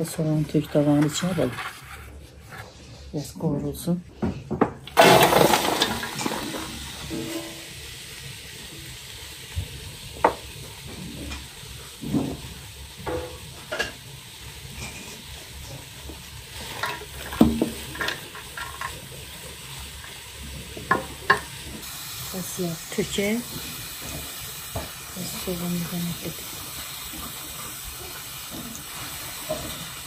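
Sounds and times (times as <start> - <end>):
onions sizzling in hot oil: 5.0 - 30.0.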